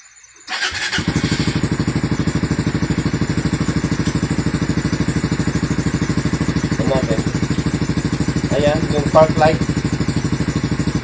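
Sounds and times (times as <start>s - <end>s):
motorcycle engine starting and idling: 0.5s - 11.0s.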